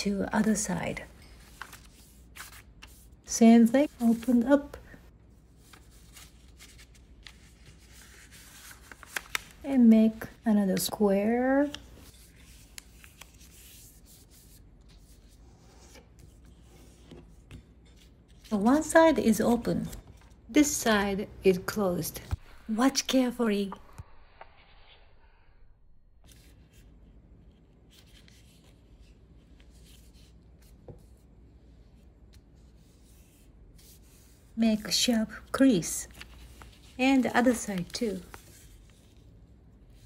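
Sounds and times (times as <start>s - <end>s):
paper rustling and folding: 0.4s - 20.4s, 26.3s - 31.2s, 32.3s - 40.0s.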